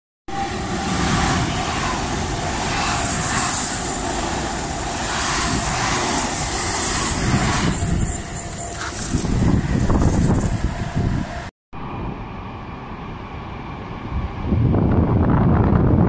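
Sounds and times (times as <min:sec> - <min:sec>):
high-speed train passing: 0:00.3 - 0:16.0.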